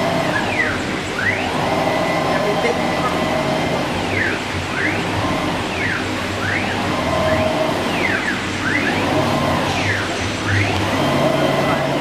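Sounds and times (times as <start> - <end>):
machine hum: 0.0 - 12.0
motors whining: 0.0 - 12.0.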